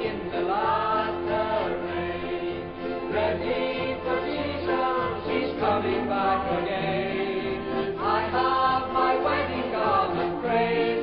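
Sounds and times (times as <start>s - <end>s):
voices singing gospel chorus: 0.0s - 11.0s.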